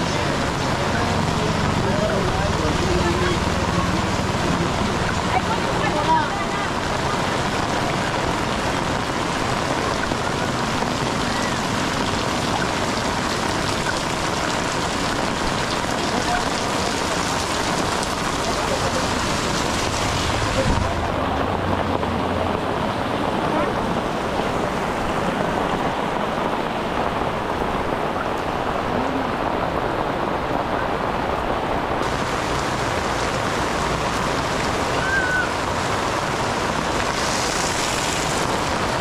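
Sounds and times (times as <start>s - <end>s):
heavy rain on street and roofs: 0.0s - 39.0s
water pouring off roof onto pavement: 0.0s - 39.0s.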